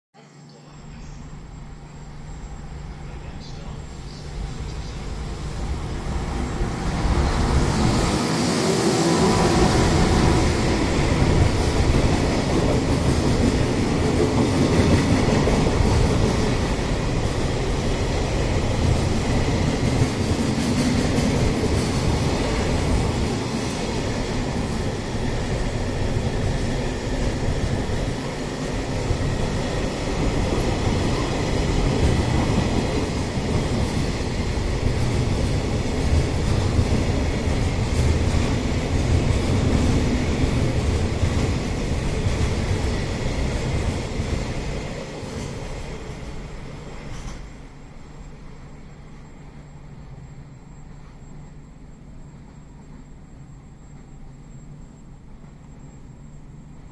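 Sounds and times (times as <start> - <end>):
electric locomotive passing: 0.4 - 56.9.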